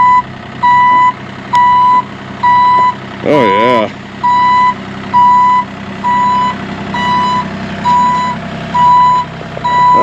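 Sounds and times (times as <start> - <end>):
diesel engine running: 0.0 - 10.0
excavator travel alarm beeping: 0.0 - 10.0.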